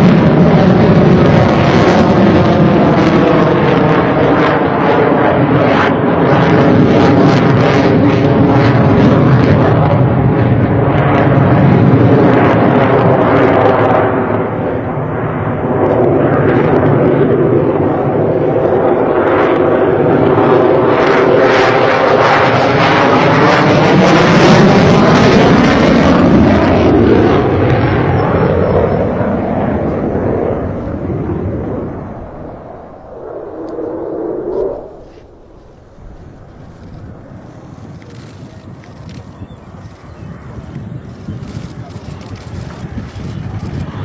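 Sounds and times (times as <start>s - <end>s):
jet fighter flying past: 0.0s - 44.0s.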